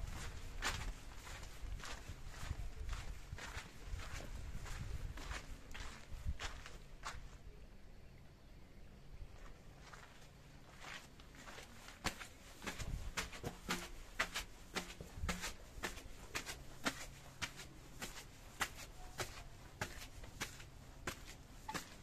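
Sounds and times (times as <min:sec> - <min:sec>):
footsteps on stone steps: 0:00.0 - 0:07.2, 0:09.4 - 0:22.0.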